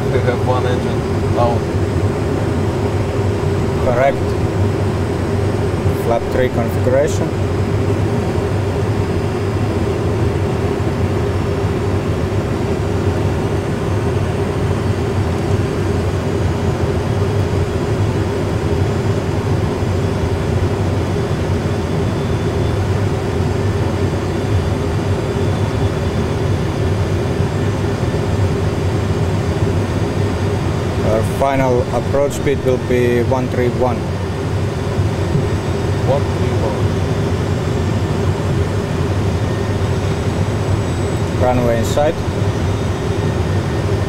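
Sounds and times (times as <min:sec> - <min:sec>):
cockpit engine drone: 0:00.0 - 0:44.0.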